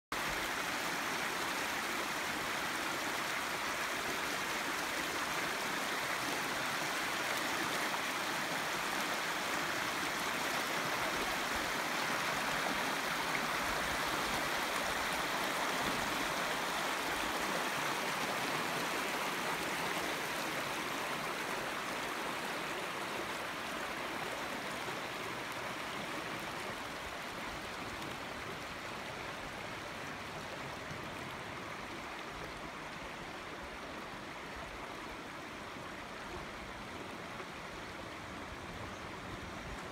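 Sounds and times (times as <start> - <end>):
river water running over rocks: 0.1 - 39.9.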